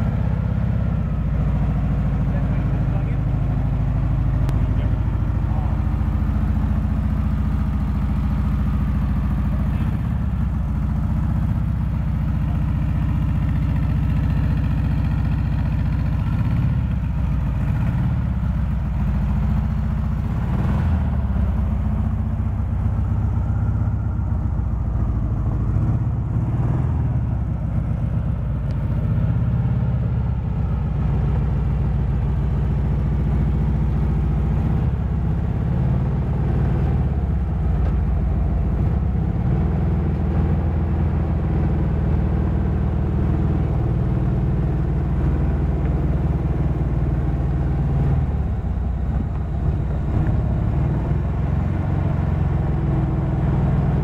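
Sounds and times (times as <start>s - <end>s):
car engine idling: 0.0s - 54.0s
engine throttle blips: 0.0s - 54.0s.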